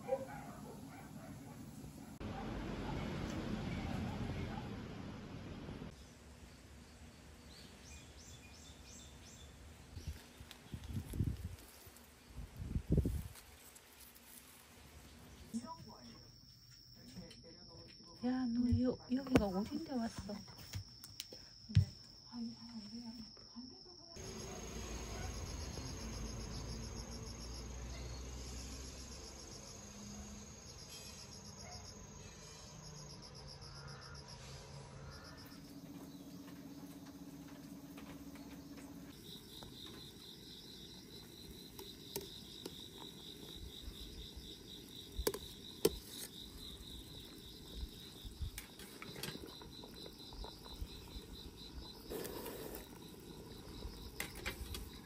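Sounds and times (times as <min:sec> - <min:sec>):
crickets chirping: 0:00.0 - 0:04.7, 0:05.9 - 0:55.0.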